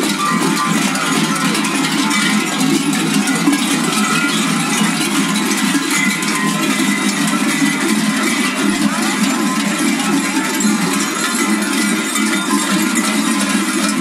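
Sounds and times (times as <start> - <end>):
large metal bells clanging: 0.0 - 14.0.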